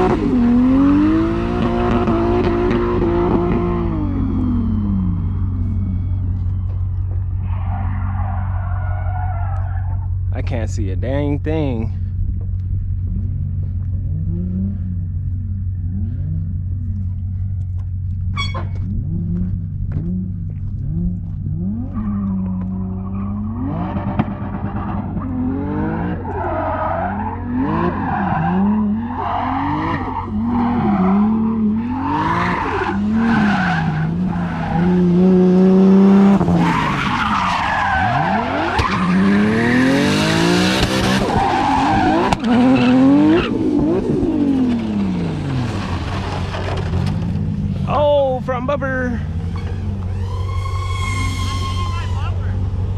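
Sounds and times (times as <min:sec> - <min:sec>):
tires squealing: 0:00.0 - 0:10.8, 0:20.9 - 0:52.9
car engine revving: 0:00.0 - 0:52.9.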